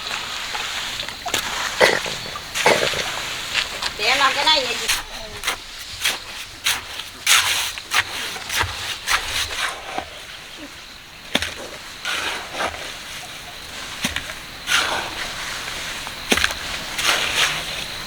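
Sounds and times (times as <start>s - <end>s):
hand tools scraping concrete: 0.0s - 10.7s, 11.4s - 18.0s.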